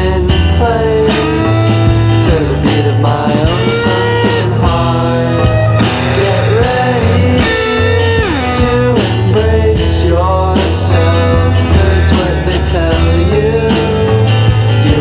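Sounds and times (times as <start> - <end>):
bass and drums: 0.0 - 15.0
lead guitar with bending notes: 0.0 - 15.0.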